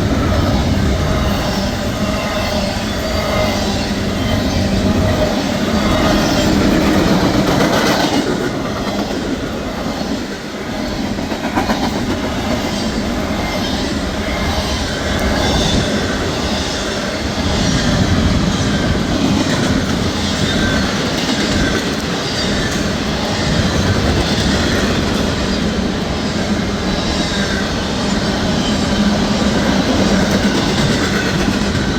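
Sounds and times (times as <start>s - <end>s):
train wheels clacking over rails: 0.0s - 31.9s.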